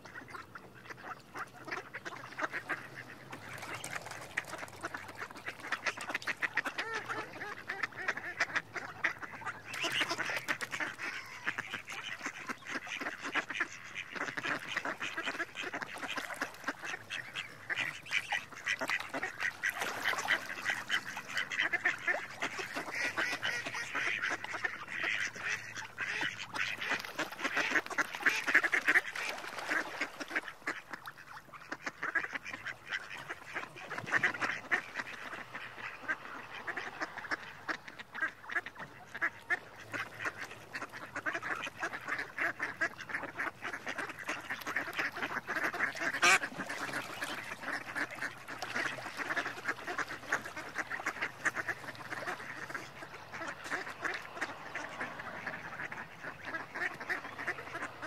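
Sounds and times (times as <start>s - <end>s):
mallard quacking: 0.0s - 58.0s.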